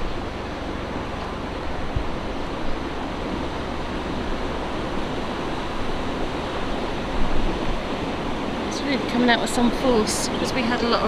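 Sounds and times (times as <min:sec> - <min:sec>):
water rushing into canal: 0:00.0 - 0:11.0.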